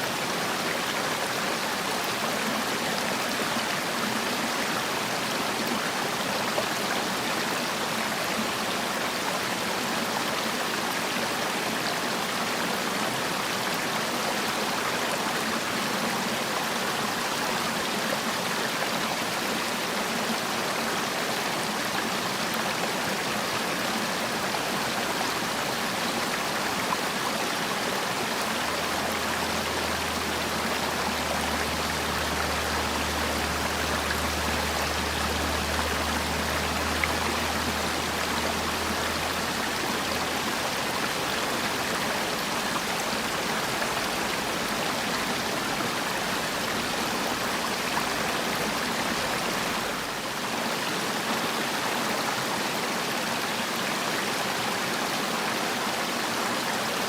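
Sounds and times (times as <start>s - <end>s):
stream water rushing over rocks: 0.0s - 57.0s.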